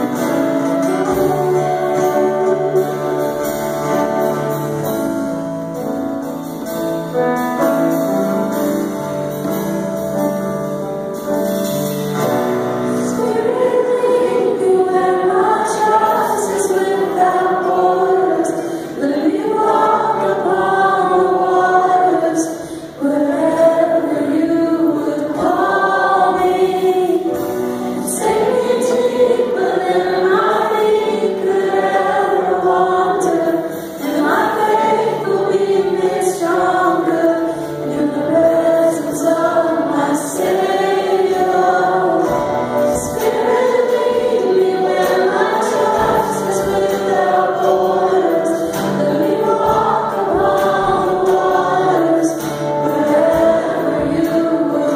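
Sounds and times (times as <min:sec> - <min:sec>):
choir singing worship song: 0:00.0 - 0:10.3, 0:11.1 - 0:54.9
live band playing: 0:00.0 - 0:54.9.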